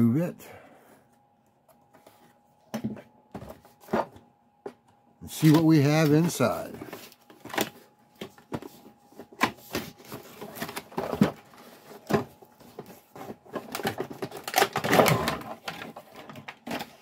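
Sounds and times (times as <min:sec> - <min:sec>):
cardboard and plastic packaging rustling: 0:01.7 - 0:17.0.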